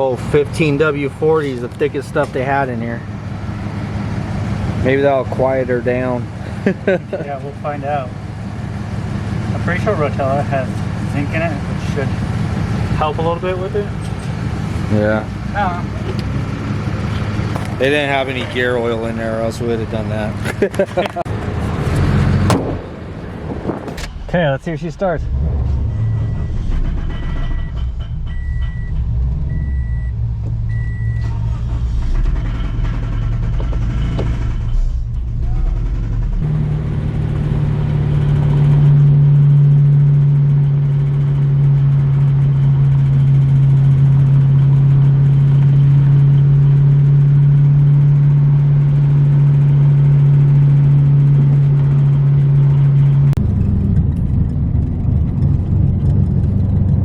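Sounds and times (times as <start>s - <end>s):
car engine droning: 0.0s - 57.0s.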